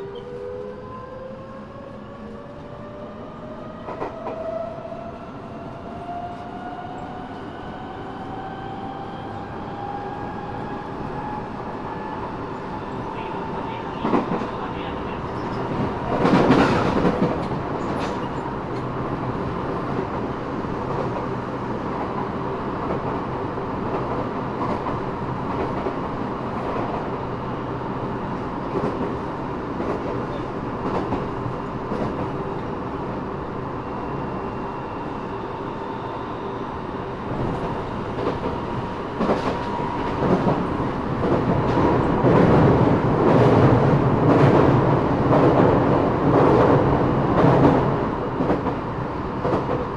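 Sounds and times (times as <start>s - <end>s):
subway car running at speed: 0.0s - 49.9s.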